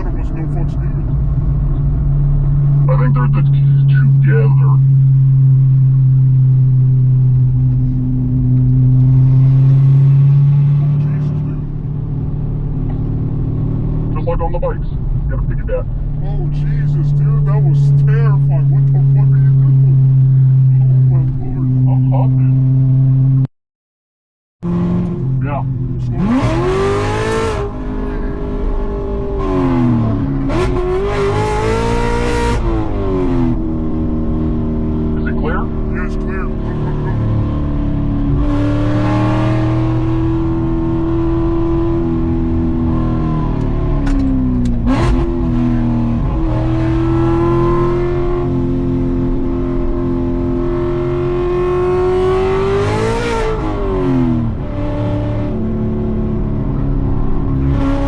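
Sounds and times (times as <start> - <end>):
car engine running loud: 0.0 - 23.4, 24.6 - 58.0.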